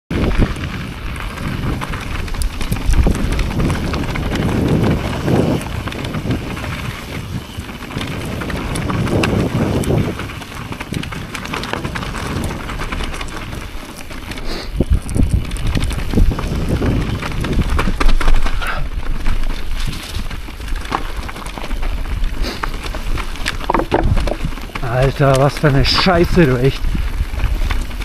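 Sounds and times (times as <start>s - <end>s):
bike clicks and knocks on bumps: 0.1s - 28.0s
bike tyres crunching on gravel: 0.1s - 28.0s
wind rumble on microphone: 0.1s - 28.0s.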